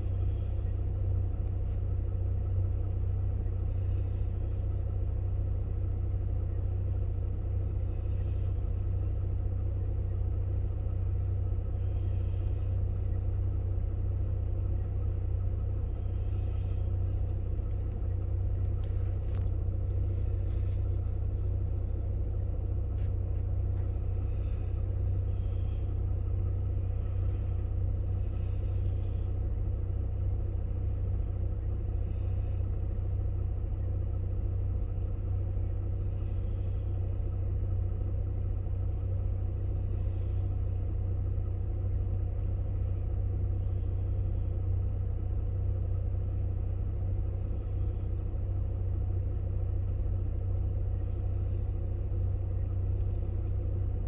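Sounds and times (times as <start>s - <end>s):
low rumble: 7.5s - 54.0s.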